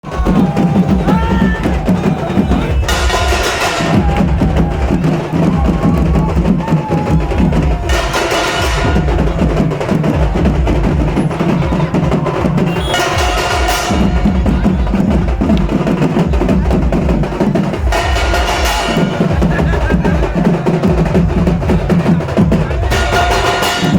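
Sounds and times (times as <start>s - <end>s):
drum band playing fast rhythm: 0.0s - 23.9s.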